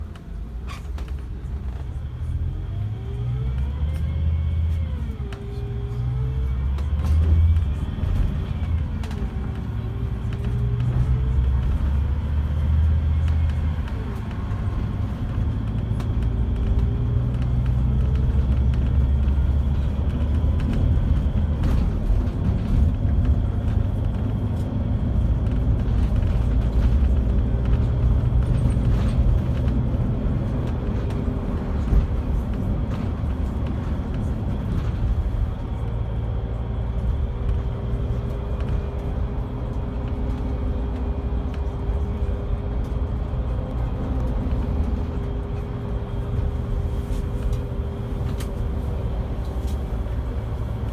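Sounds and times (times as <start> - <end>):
diesel coach engine rumble: 0.0 - 50.9
road noise: 0.0 - 50.9.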